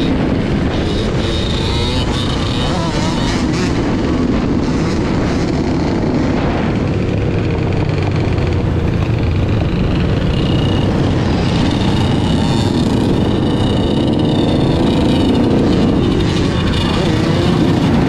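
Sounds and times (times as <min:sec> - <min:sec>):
dirt bike engine running: 0:00.0 - 0:18.0
quads and dirt bikes nearby: 0:00.0 - 0:18.0.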